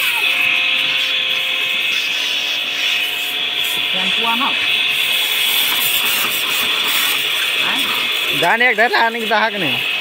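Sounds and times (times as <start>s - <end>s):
pressure washer spraying metal: 0.0s - 10.0s.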